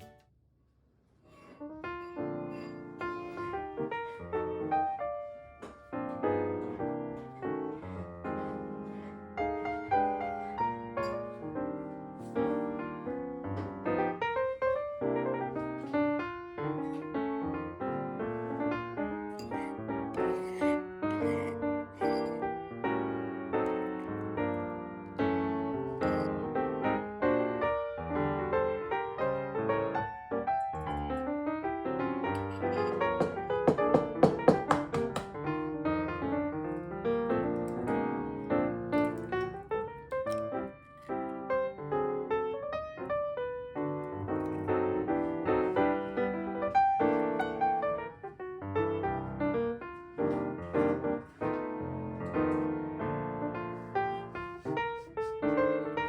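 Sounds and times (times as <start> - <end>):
piano music with short notes: 0.0 - 0.2, 1.6 - 56.0.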